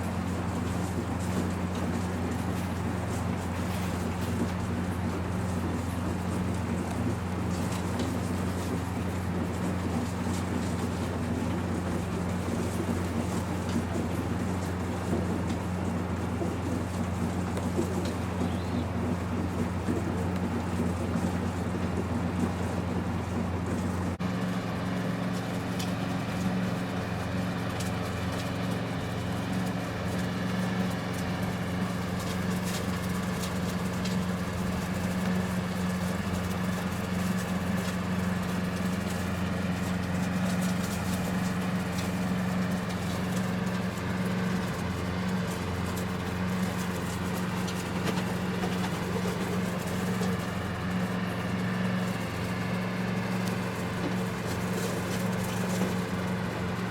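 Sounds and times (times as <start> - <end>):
low motor hum: 0.0 - 56.9.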